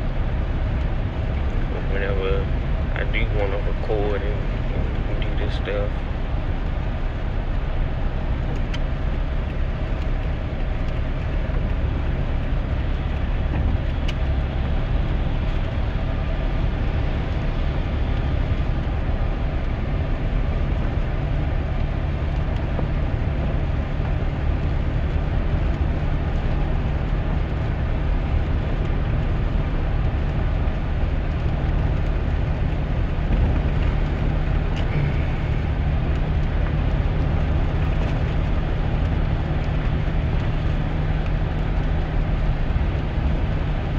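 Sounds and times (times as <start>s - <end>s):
pickup truck driving in rain: 0.0s - 43.9s.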